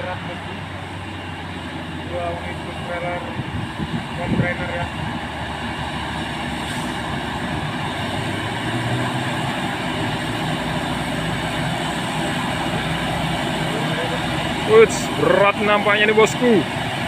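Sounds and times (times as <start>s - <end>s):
truck diesel engine pulling uphill: 0.0s - 17.0s.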